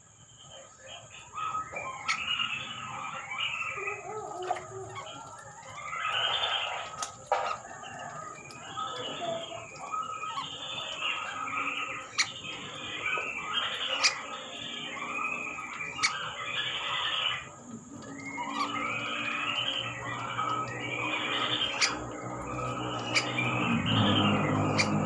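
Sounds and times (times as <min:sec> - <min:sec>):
birds calling and chattering: 0:00.0 - 0:25.0.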